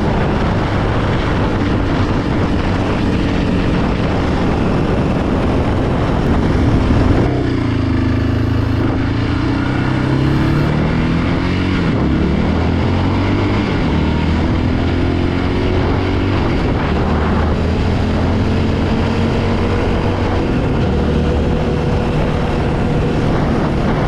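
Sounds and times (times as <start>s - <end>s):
atv engine running: 0.0s - 24.0s
wind and road noise: 0.0s - 24.0s.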